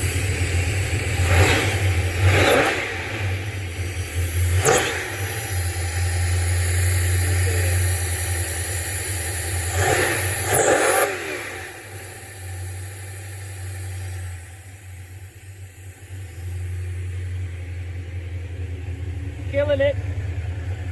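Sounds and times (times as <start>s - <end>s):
car engine revving and idling: 0.0s - 20.9s.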